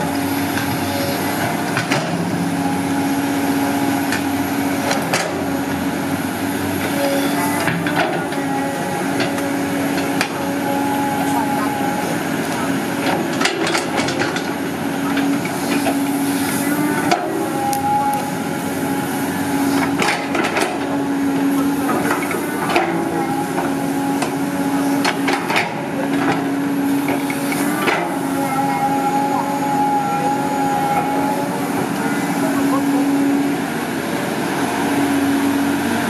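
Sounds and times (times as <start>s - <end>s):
excavator engine and hydraulics: 0.0s - 36.0s.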